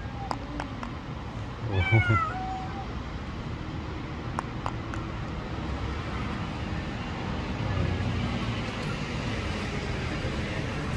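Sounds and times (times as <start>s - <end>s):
low rumble of road traffic: 0.0s - 10.9s.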